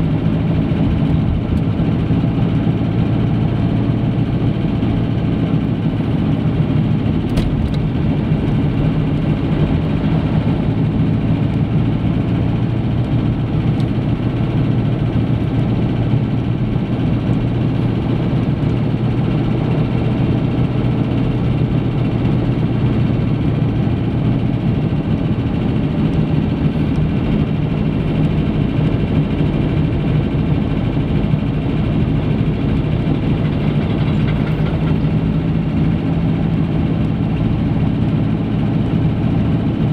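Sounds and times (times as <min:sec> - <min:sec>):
car engine hum: 0:00.0 - 0:39.9
road and tyre noise: 0:00.0 - 0:39.9.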